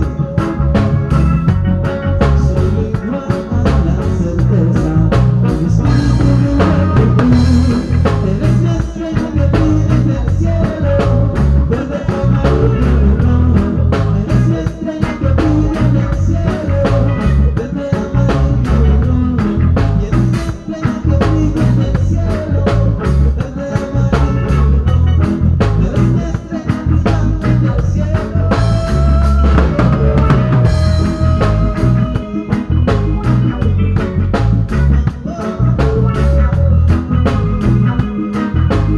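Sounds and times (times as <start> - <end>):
drums keeping a steady beat: 0.0 - 38.9
upbeat band music: 0.0 - 38.9.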